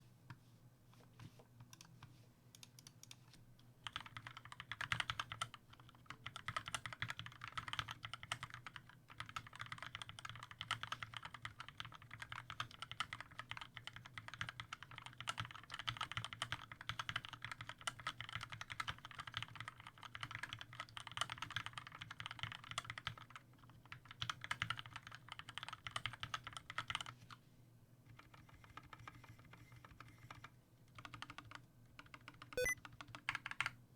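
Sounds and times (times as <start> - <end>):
typing on mechanical keyboard: 2.6 - 3.2, 3.8 - 27.2, 28.1 - 33.8.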